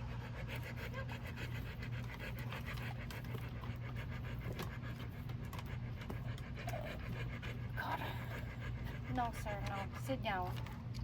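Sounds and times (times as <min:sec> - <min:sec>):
dog panting: 0:00.0 - 0:11.0
steady low hum: 0:00.0 - 0:11.0.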